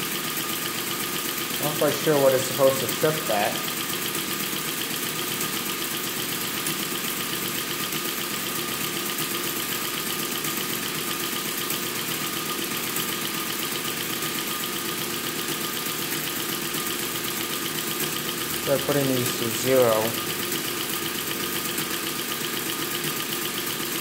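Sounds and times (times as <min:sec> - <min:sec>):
mechanical calculator running: 0:00.0 - 0:24.0.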